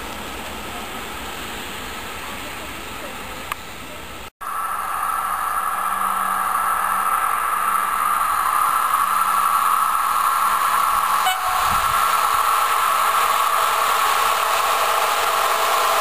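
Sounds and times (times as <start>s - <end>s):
passenger train approaching: 0.0s - 16.0s.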